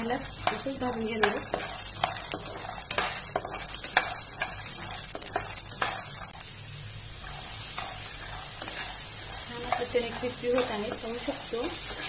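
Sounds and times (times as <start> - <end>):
chickpeas sizzling in oil: 0.0 - 12.0
spatula clicking and scraping pan: 0.2 - 6.4, 7.2 - 12.0.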